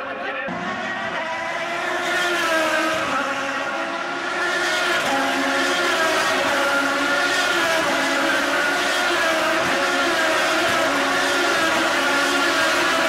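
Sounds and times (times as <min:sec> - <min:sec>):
race car engines passing: 0:00.4 - 0:13.0.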